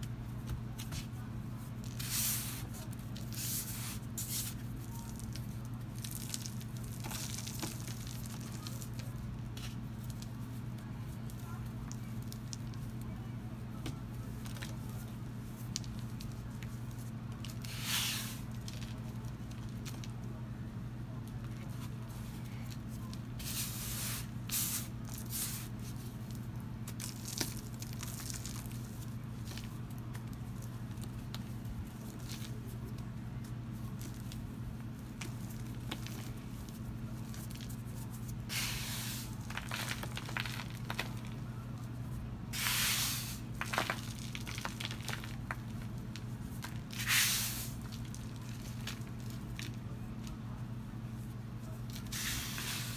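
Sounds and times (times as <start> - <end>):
steady low hum: 0.0 - 52.9
powder crunching and rustling: 0.4 - 13.0, 14.0 - 20.3, 21.4 - 52.9.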